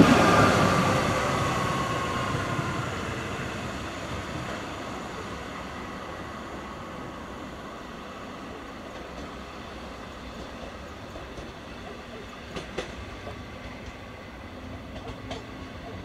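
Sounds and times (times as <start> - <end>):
electric train rolling on track: 0.0 - 16.0.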